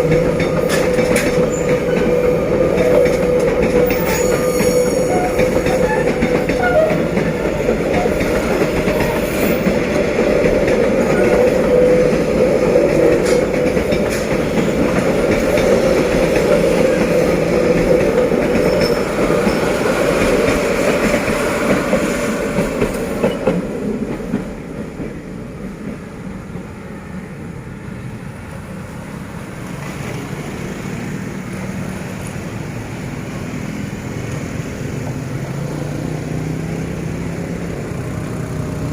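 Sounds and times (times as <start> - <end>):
passenger train passing: 0.0 - 38.9.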